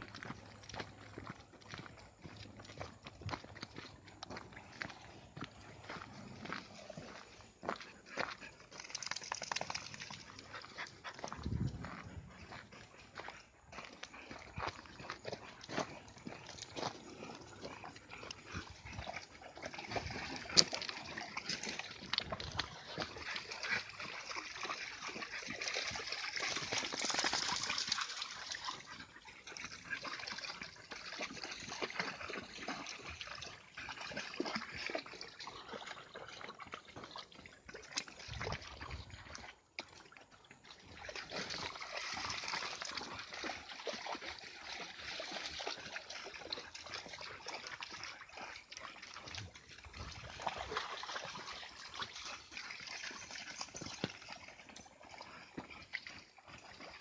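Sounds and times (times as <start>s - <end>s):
dogs wading through water: 0.0s - 57.0s.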